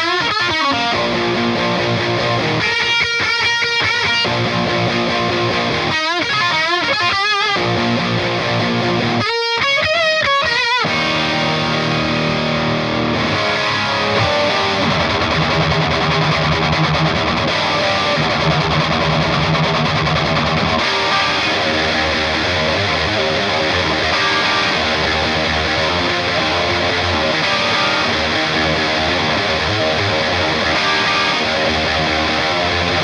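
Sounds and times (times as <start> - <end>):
distorted electric guitar: 0.0 - 33.0
drums: 0.0 - 33.0.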